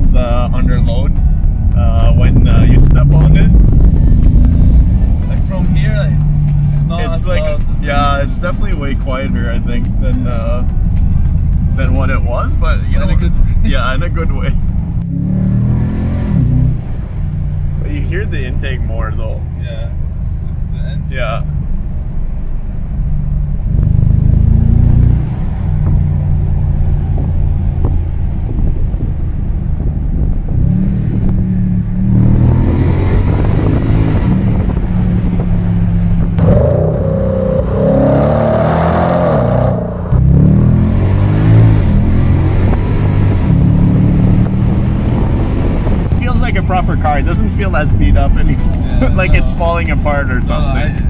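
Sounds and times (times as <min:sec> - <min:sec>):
car engine accelerating in cabin: 0:00.0 - 0:51.0.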